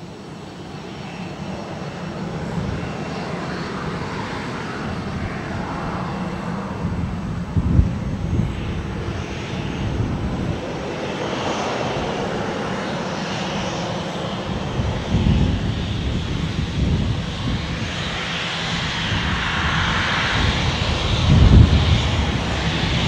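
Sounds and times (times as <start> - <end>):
jet engines running at low thrust: 0.0 - 23.0.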